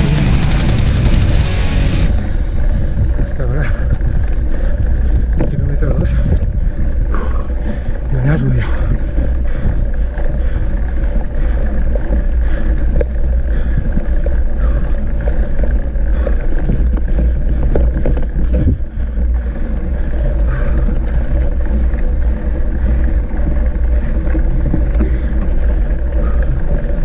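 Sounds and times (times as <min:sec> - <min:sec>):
wind buffeting microphone: 0:02.0 - 0:27.0
bike rattling over gravel: 0:02.1 - 0:27.0.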